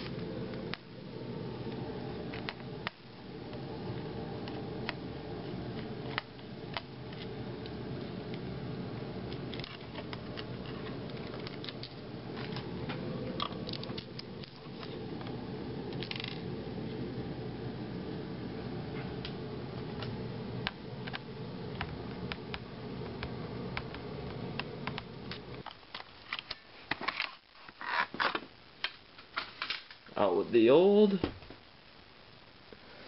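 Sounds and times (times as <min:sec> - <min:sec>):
steady low hum: 0:00.0 - 0:27.7.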